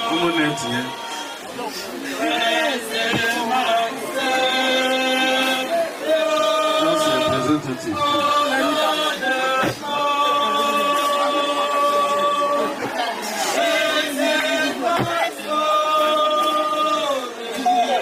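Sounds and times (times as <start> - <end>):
group of people singing: 0.0 - 18.0.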